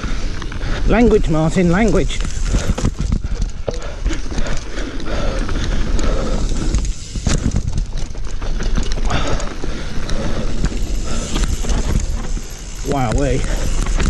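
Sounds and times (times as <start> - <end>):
mountain bike clattering over rocks: 0.2 - 14.0.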